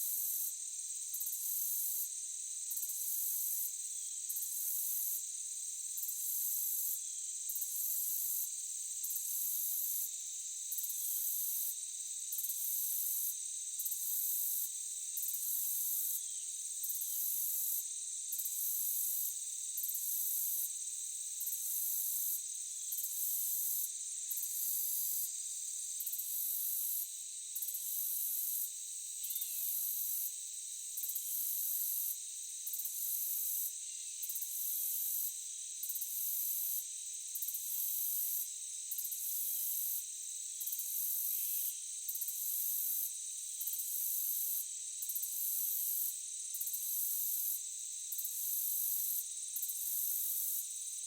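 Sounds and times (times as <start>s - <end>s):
high pulsing insect call: 0.0s - 51.0s.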